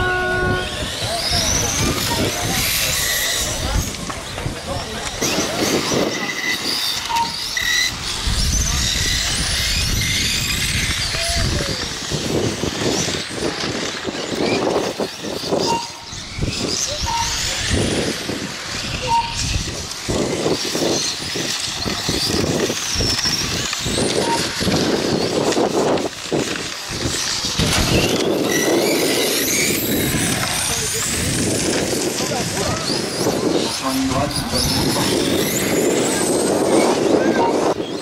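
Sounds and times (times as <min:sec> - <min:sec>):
rc car motors whining: 0:00.0 - 0:38.0.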